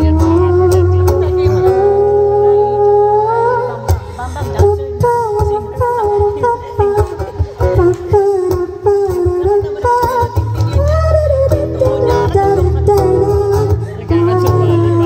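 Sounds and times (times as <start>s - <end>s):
acoustic guitar strumming: 0.0s - 15.0s
woman singing into a microphone: 0.0s - 15.0s.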